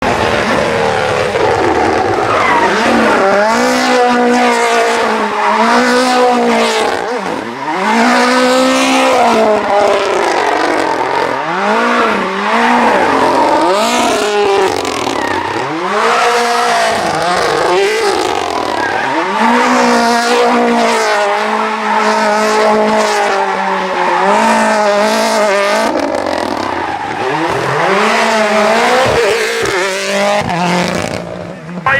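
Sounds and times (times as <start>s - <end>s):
rally car engine revving: 0.0s - 31.9s.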